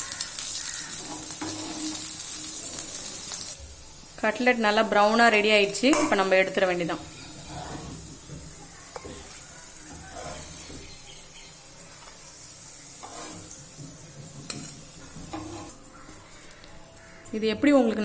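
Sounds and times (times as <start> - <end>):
cutlets sizzling in oil: 0.0 - 18.0.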